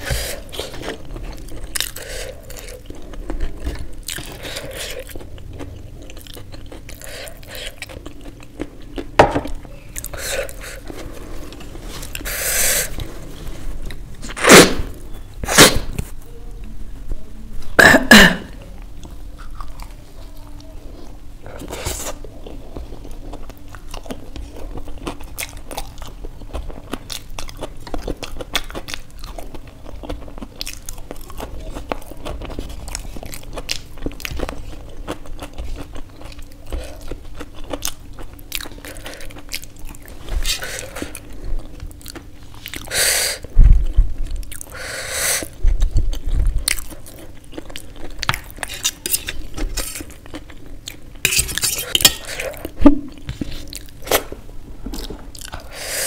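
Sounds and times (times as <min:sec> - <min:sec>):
chewing crunchy pastry: 0:00.0 - 0:16.2, 0:18.6 - 0:55.9.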